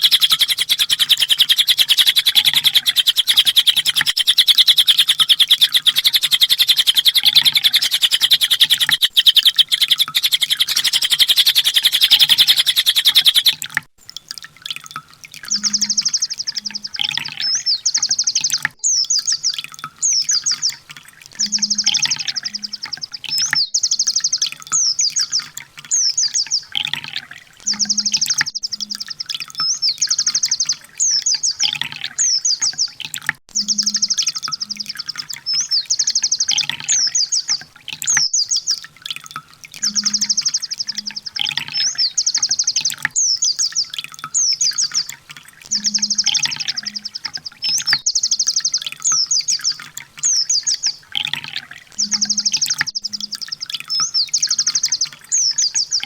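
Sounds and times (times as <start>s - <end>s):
sunbird trilling song: 0.0s - 13.8s, 15.4s - 20.8s, 21.4s - 33.0s, 33.6s - 38.9s, 39.8s - 56.0s.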